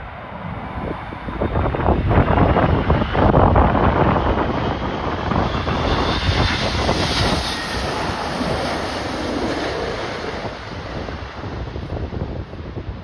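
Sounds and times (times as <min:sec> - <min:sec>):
jet airliner engine passing: 0:00.0 - 0:13.0
wind buffeting microphone: 0:00.0 - 0:13.0.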